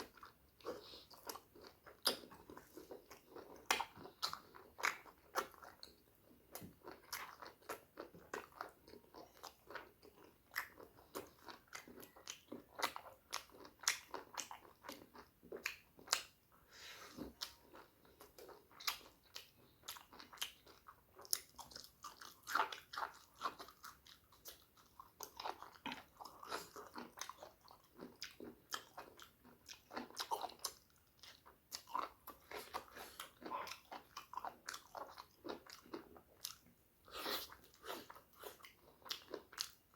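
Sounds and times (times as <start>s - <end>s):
close chewing and mouth sounds: 0.0s - 39.9s.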